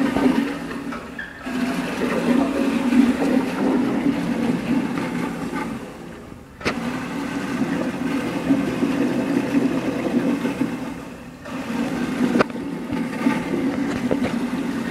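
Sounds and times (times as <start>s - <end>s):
toilet flushing: 0.0s - 14.9s.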